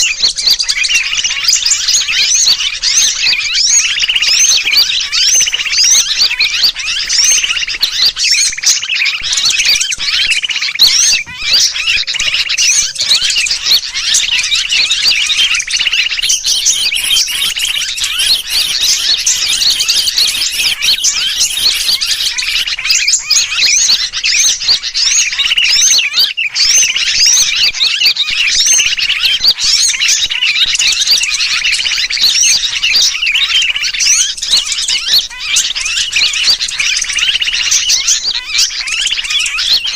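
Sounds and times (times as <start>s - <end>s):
bulbul distress calls: 0.0s - 39.9s
small birds chirping and twittering: 0.0s - 39.9s.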